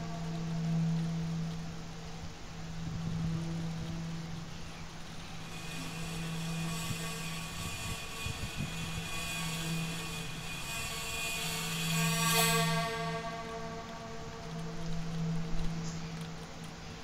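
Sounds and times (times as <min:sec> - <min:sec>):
high held tones: 0:00.0 - 0:17.0
low drone: 0:00.0 - 0:17.0
rumbling noisy haze: 0:00.0 - 0:17.0.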